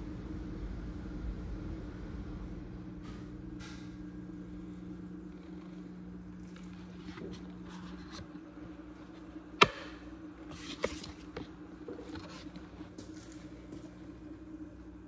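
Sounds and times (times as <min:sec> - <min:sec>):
aquarium air pump humming: 0:00.0 - 0:15.0.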